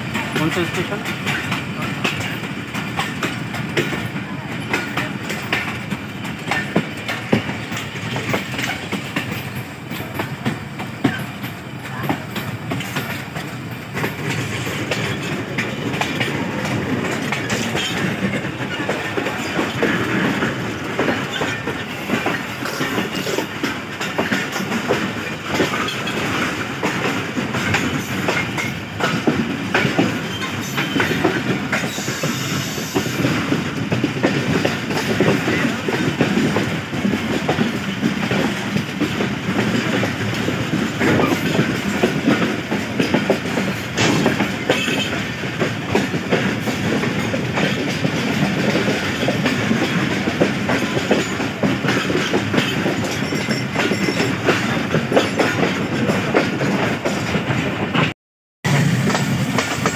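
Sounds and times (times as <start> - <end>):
wheels clicking over rail joints: 0.0 - 58.1
train rumble and rush: 0.0 - 59.9.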